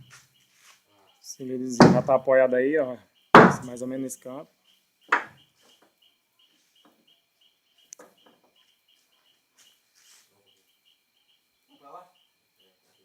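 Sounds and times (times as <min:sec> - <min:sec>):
cricket chirping: 0:01.0 - 0:13.0.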